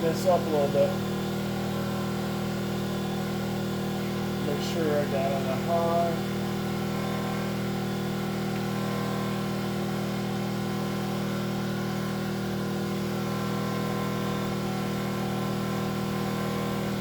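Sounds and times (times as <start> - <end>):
generator running steadily: 0.0 - 17.0.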